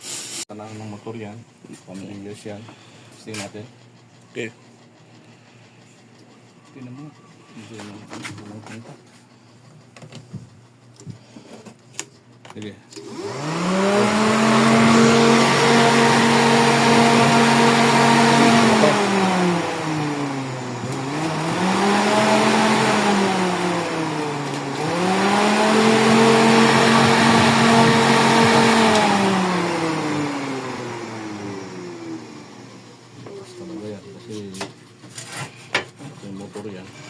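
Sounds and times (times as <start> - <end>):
cooling fan motor whine: 0.5 - 37.0.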